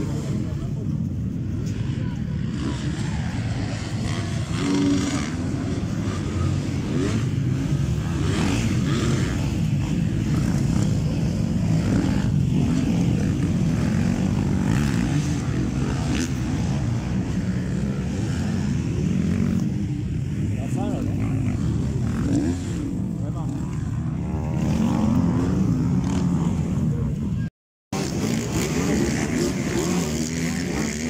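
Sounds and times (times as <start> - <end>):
motocross engines revving: 0.0 - 31.0.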